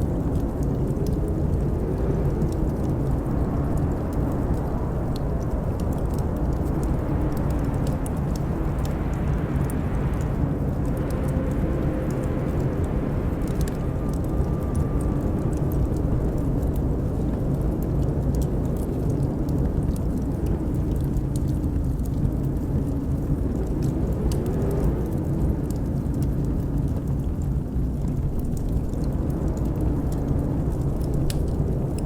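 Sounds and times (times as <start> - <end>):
blizzard wind howling: 0.0 - 32.0
wood fire crackling: 0.0 - 32.0.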